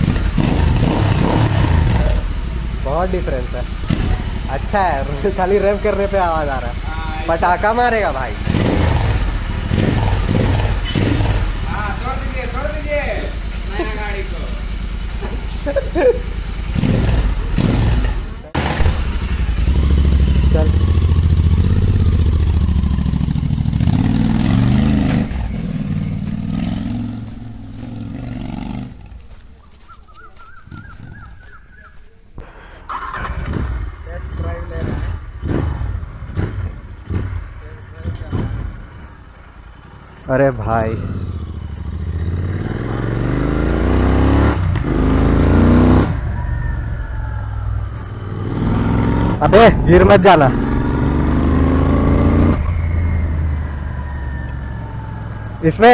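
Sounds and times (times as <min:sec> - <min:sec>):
motorcycle engine pulling away: 0:00.0 - 0:32.1, 0:32.8 - 0:55.9.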